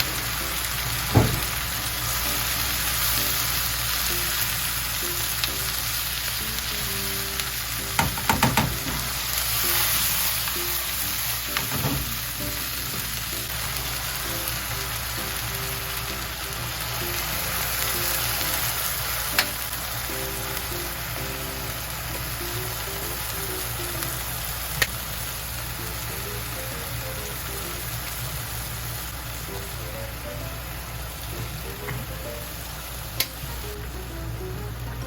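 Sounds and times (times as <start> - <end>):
food sizzling in a frying pan: 0.0 - 35.0
soft background music: 0.0 - 35.0.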